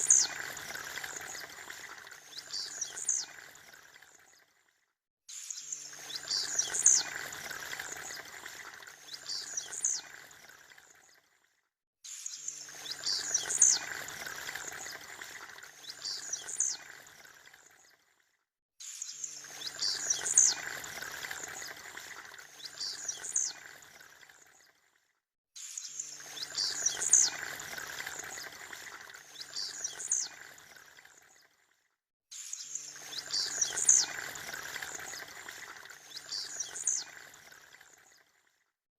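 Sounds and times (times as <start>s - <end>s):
running water: 0.0s - 4.7s, 5.3s - 11.3s, 12.1s - 18.1s, 18.9s - 25.0s, 25.6s - 31.7s, 32.4s - 38.5s.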